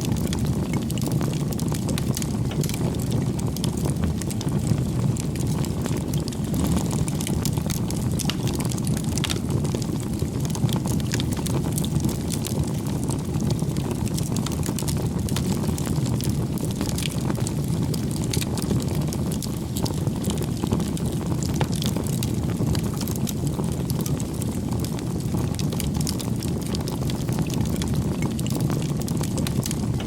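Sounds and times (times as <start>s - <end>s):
fire crackles and pops: 0.0s - 30.0s
wood fire burning: 0.0s - 30.0s.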